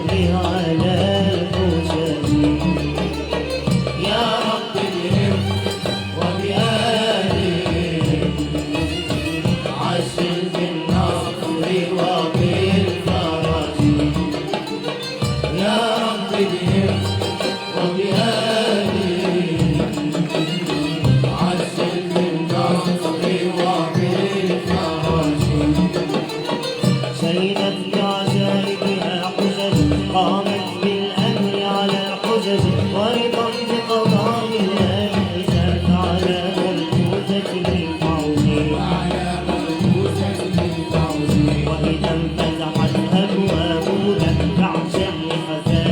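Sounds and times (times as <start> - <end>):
hand drums steady beat: 0.0 - 45.9.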